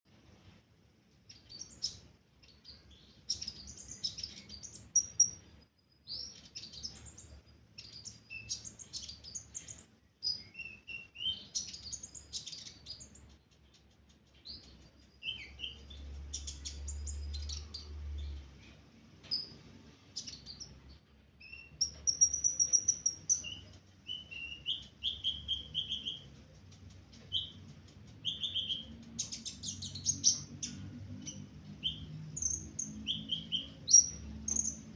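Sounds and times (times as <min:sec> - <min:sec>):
songbird chirping and twittering: 0:00.1 - 0:34.9.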